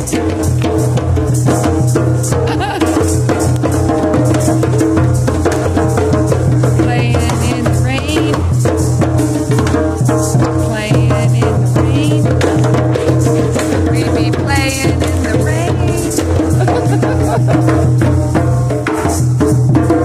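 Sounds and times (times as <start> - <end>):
hand drums playing rhythm: 0.0 - 20.0.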